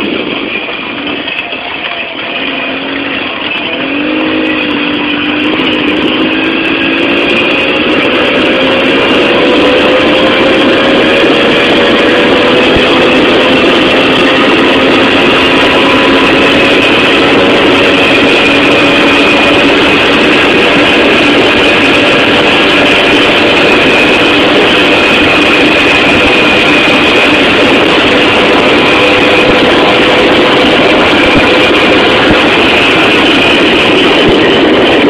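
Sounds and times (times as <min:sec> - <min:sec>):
moped engine running: 0:00.0 - 0:35.0.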